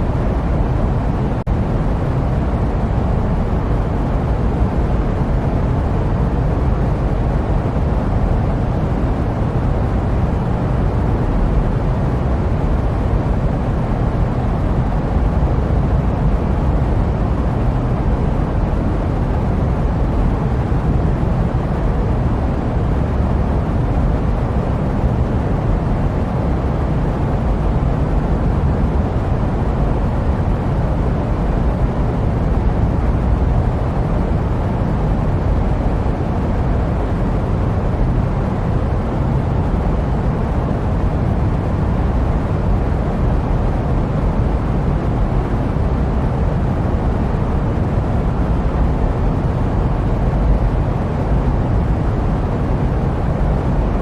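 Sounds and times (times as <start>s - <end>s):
jet airplane rumble: 0.0s - 54.0s.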